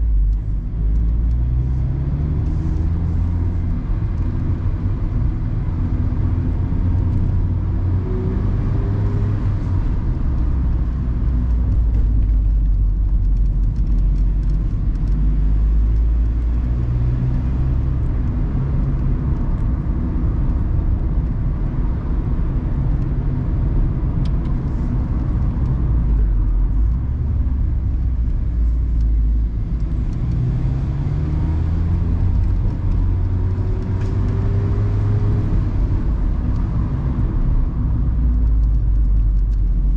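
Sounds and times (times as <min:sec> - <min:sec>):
car engine rising and falling: 0:00.0 - 0:39.9.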